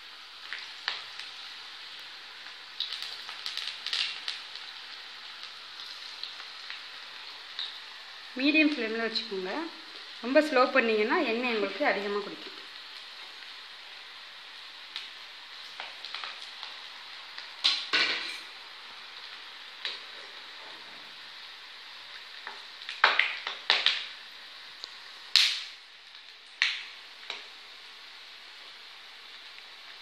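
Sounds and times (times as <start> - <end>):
potatoes deep-frying in oil: 0.0 - 30.0.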